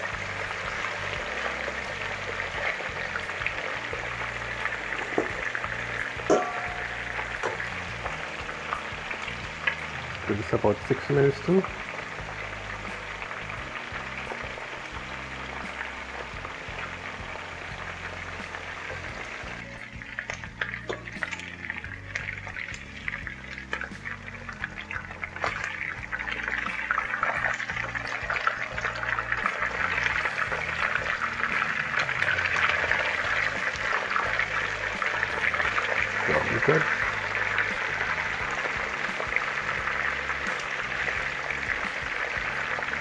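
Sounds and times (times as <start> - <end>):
chicken sizzling in hot oil: 0.0 - 43.0
oil crackling and popping: 0.0 - 43.0.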